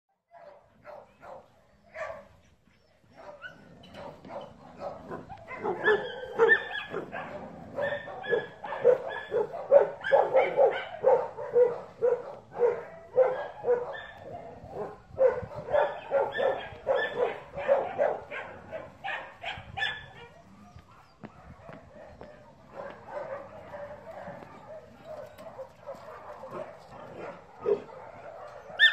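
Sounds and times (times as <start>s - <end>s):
dog barking high-pitched: 0.3s - 2.3s, 3.2s - 28.9s.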